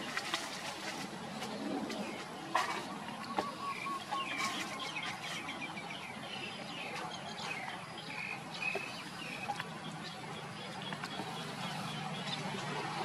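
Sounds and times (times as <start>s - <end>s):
birds chirping: 1.2s - 13.0s.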